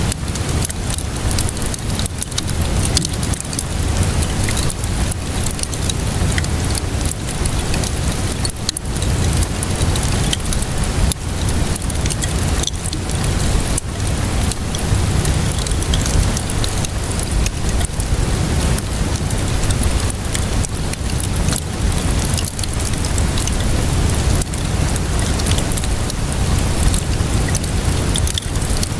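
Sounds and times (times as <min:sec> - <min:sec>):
rainfall hiss: 0:00.0 - 0:28.9
wood fire crackling and popping: 0:00.0 - 0:28.9.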